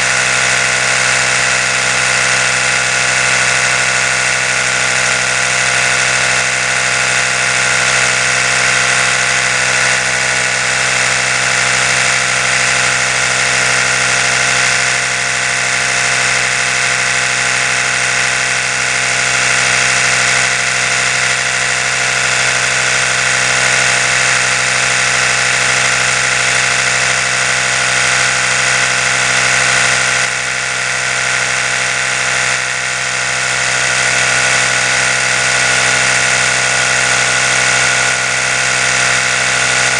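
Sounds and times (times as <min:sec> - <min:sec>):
electric toothbrush buzzing: 0:00.0 - 0:39.9.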